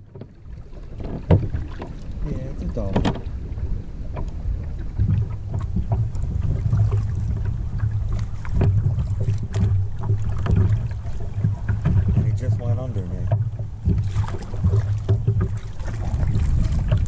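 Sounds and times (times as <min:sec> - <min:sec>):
knocks and clicks from boat: 0:00.0 - 0:17.0
water lapping against hull: 0:00.0 - 0:17.0
wind buffeting microphone: 0:00.0 - 0:17.0.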